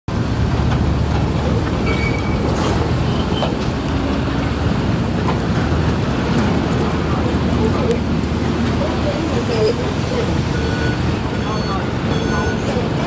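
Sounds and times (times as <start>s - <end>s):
excavator diesel engine running: 0.1s - 13.0s.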